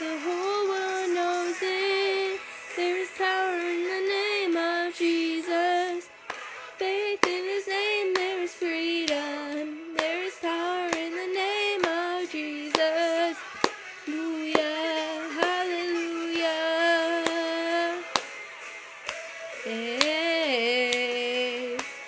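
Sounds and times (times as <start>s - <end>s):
woman singing: 0.0s - 6.1s, 6.7s - 18.2s, 19.6s - 22.0s.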